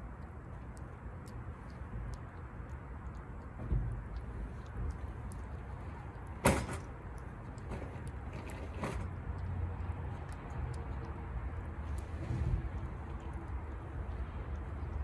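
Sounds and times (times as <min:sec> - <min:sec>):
cat licking and eating wet food: 0:00.0 - 0:15.0
low traffic rumble: 0:00.0 - 0:15.0.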